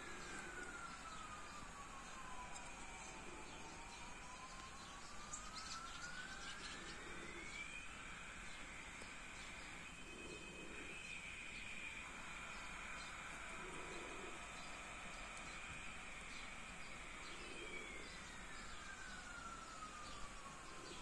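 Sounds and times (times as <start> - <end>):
faint siren: 0.0 - 21.0.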